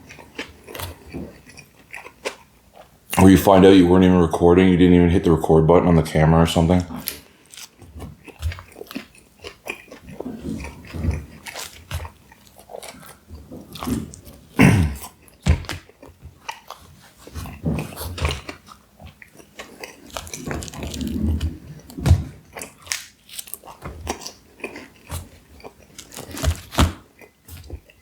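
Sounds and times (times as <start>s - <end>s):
person chewing food: 0.0s - 3.2s, 6.9s - 28.0s.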